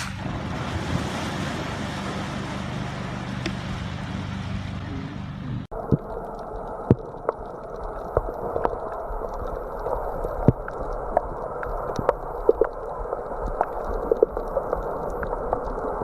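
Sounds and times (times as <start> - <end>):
muffled water noise: 0.0 - 16.0.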